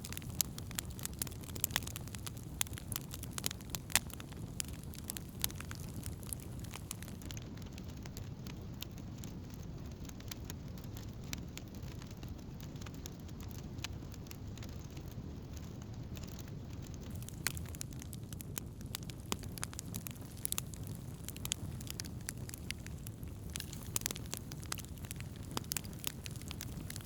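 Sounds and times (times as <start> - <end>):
burning wood crackling and popping: 0.0 - 27.0
campfire flames rumbling: 0.0 - 27.0.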